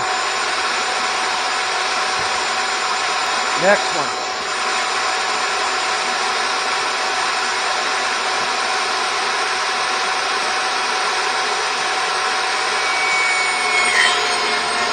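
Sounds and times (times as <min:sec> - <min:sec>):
table saw running: 0:00.0 - 0:14.9.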